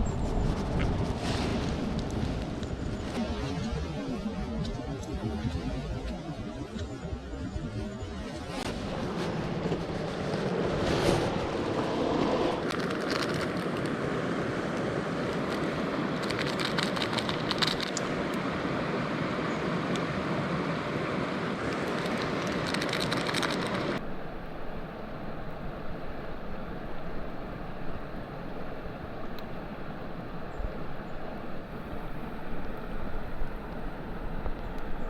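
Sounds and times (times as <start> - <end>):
campfire crackles: 0.0 - 3.2, 8.8 - 35.0
steady rushing noise: 0.0 - 35.0.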